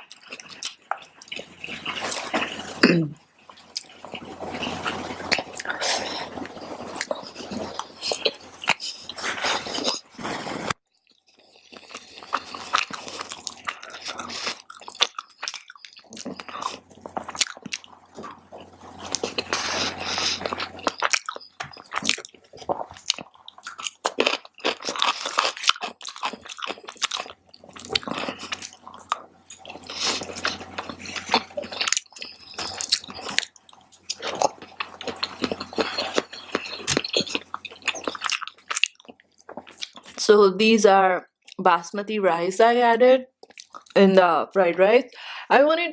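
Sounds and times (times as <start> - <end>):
chewing and biting food: 0.0 - 2.8, 3.4 - 40.2, 43.4 - 44.0.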